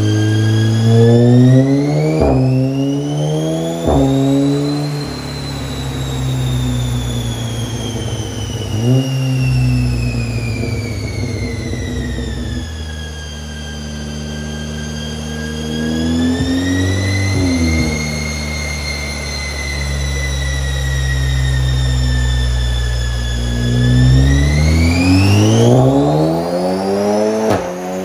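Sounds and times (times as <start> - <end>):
car engine revving: 0.0 - 28.0
high whine: 0.0 - 28.0.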